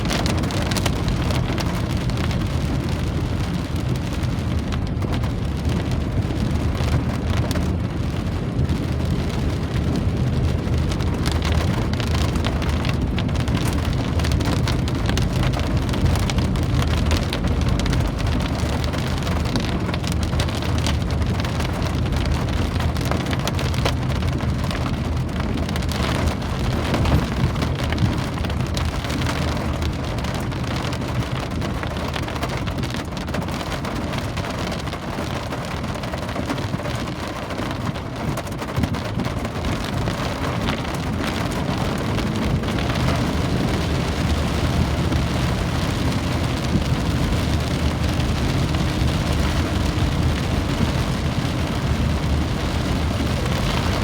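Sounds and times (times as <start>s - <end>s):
constant low rumble: 0.0s - 54.0s
steady rain patter: 0.0s - 54.0s.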